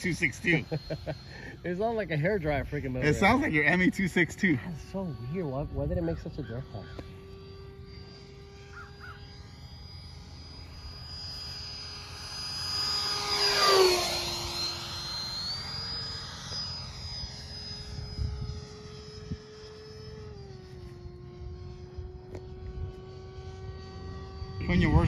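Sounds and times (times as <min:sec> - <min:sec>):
rc jet fan whine: 0:00.0 - 0:25.0.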